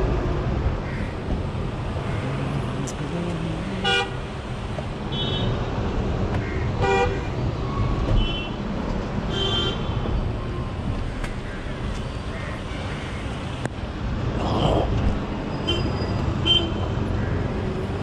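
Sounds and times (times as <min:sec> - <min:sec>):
truck and car engines: 0:00.0 - 0:18.0.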